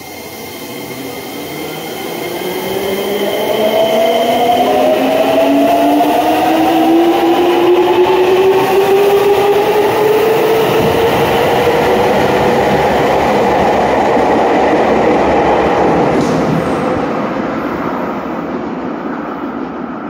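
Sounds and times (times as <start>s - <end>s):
subway train accelerating: 0.0s - 20.0s.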